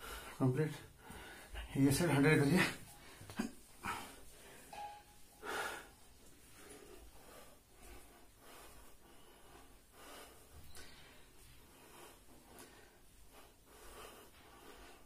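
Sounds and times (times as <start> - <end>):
man breathing hard: 0.0 - 1.7, 2.8 - 4.7, 5.3 - 15.0.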